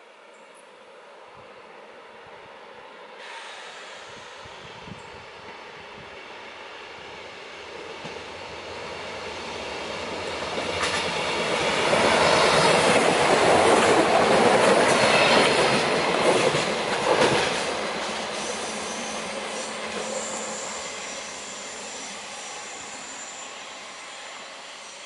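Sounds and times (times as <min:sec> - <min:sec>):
train wheels rumbling on rails: 0:03.2 - 0:25.0.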